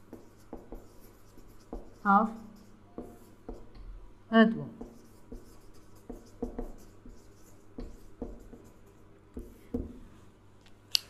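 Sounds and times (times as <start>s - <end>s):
marker scratching on a whiteboard: 0.0s - 3.8s, 4.8s - 10.1s.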